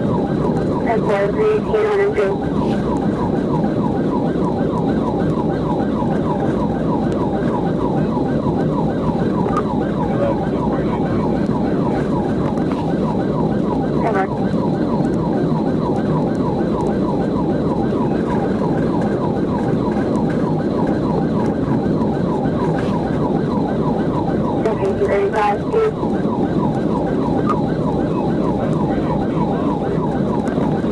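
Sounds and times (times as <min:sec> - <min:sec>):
police siren yelping: 0:00.0 - 0:30.9.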